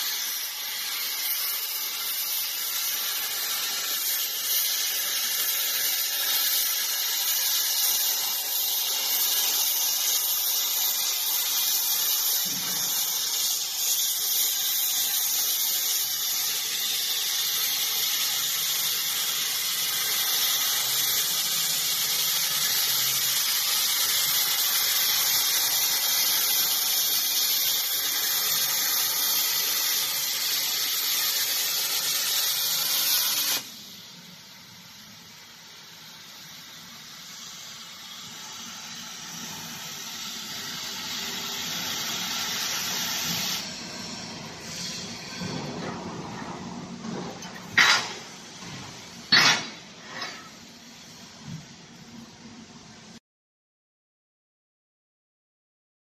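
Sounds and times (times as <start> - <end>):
plasma torch hissing: 0.0 - 52.4.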